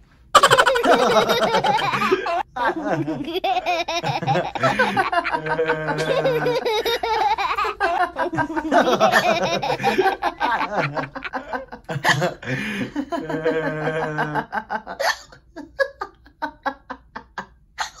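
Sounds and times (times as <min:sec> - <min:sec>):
person laughing: 0:00.4 - 0:18.0.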